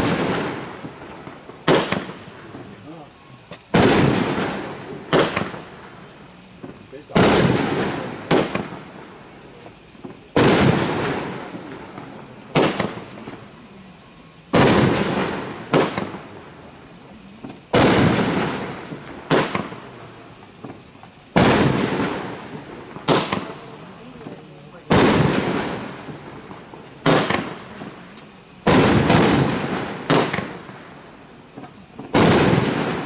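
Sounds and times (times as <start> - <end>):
firework bangs: 0.0 - 33.0.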